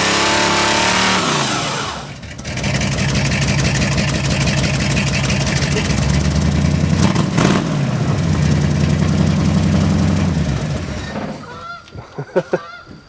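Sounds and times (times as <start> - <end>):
car engine running: 0.0 - 11.6.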